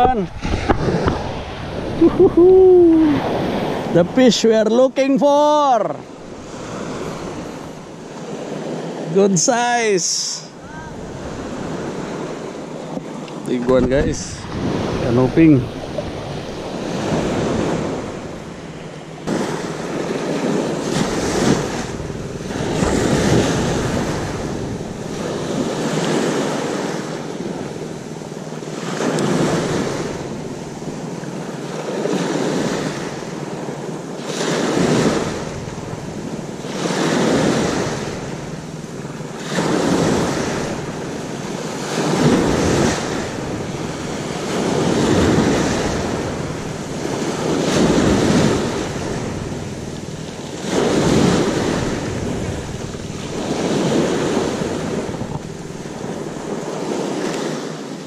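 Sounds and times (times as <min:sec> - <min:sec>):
wind buffeting microphone: 0:00.0 - 0:04.7, 0:10.6 - 0:57.8
sea waves breaking: 0:00.0 - 0:58.0.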